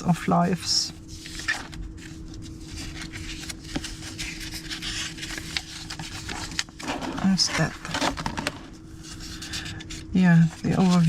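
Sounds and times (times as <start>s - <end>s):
faint steady hum: 0.0s - 11.0s
paper pages rustling: 1.0s - 11.0s.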